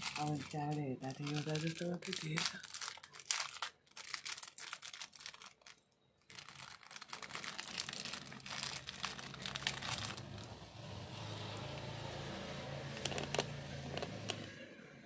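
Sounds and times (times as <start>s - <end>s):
plastic packet crinkling: 0.0s - 10.6s, 12.9s - 14.4s.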